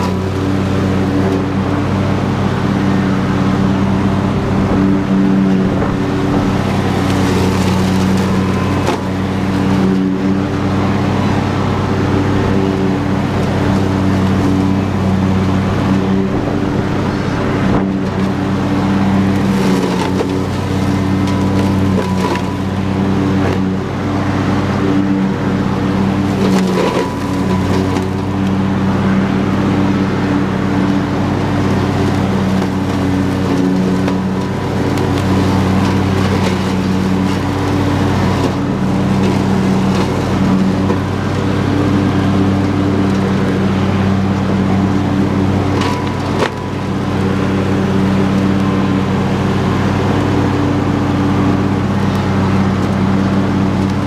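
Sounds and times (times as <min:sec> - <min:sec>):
lawn tractor engine under load: 0:00.0 - 0:54.0
mower deck cutting grass: 0:00.0 - 0:54.0.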